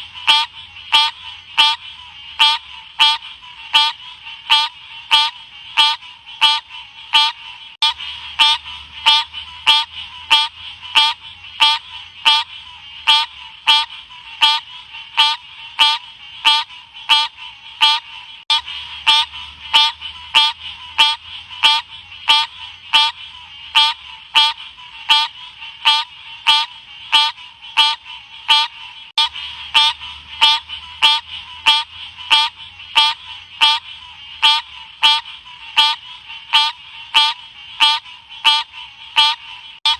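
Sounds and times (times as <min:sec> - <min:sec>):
frog chirping: 0:00.0 - 0:39.9.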